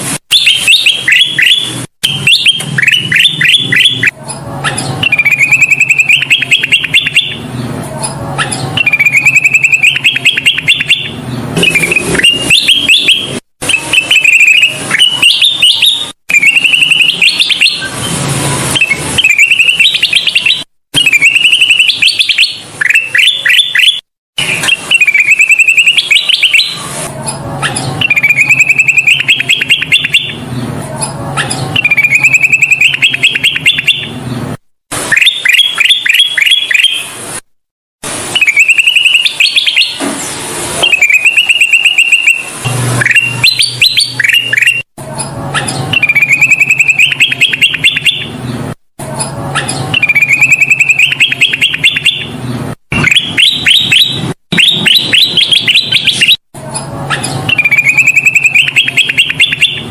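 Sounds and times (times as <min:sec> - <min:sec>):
bulbul singing rapid chirps: 0:00.3 - 0:18.0, 0:18.8 - 0:26.9, 0:27.6 - 0:30.5, 0:31.4 - 0:34.3, 0:38.4 - 0:40.0, 0:40.8 - 0:44.9, 0:45.6 - 0:48.3, 0:49.6 - 0:56.4, 0:57.1 - 0:59.9.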